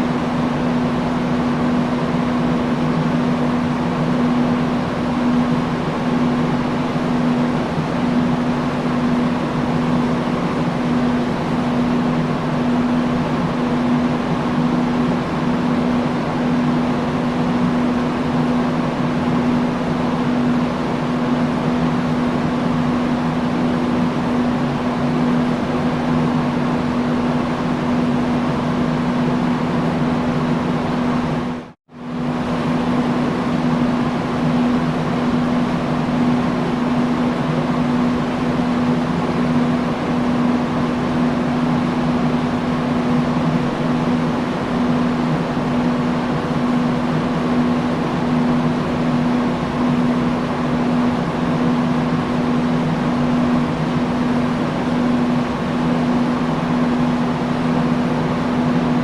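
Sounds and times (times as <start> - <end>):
industrial fan running: 0.0 - 59.0.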